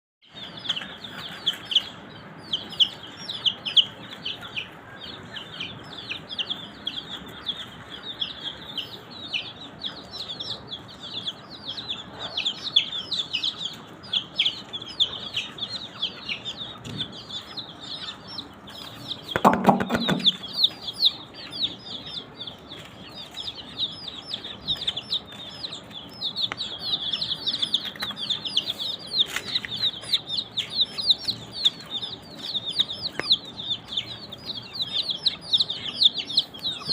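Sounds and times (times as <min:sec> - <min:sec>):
baby chicks peeping: 0:00.2 - 0:36.9.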